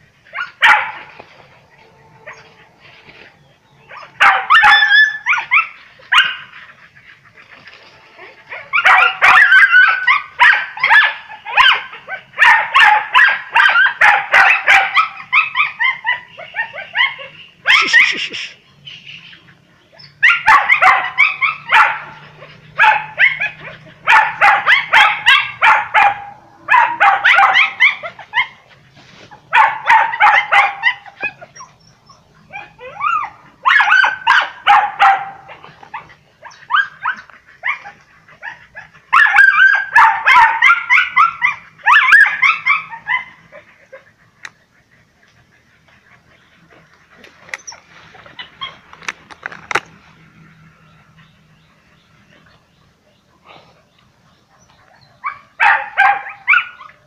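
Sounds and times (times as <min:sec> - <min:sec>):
dogs yelping and barking: 0:00.0 - 0:57.0.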